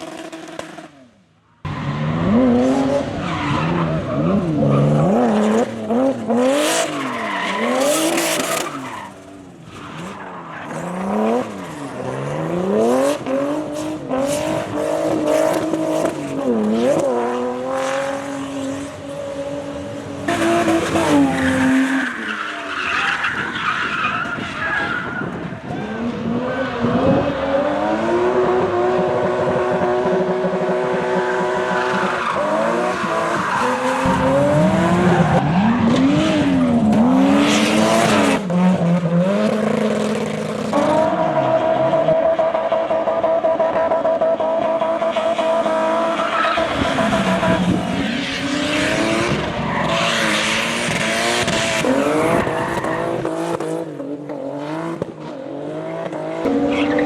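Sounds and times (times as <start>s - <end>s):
tyres skidding and squealing: 0.0s - 54.5s, 55.2s - 57.0s
car engines revving: 0.0s - 57.0s.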